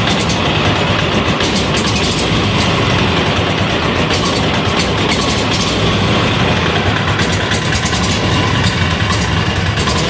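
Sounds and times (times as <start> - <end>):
diesel engine clattering: 0.0 - 10.0.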